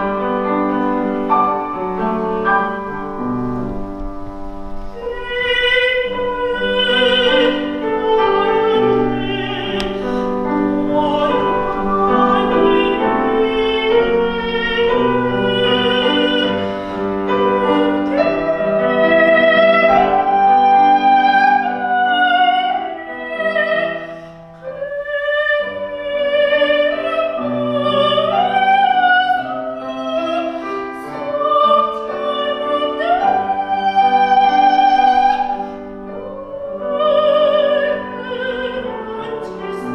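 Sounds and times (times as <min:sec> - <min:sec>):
piano chords: 0:00.0 - 0:39.9
soprano singing with vibrato: 0:00.0 - 0:39.9.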